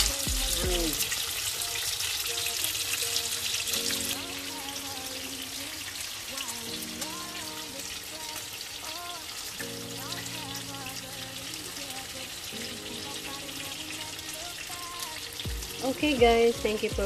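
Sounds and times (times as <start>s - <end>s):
background music with held notes: 0.0s - 17.0s
fish sizzling in oil: 0.0s - 17.0s.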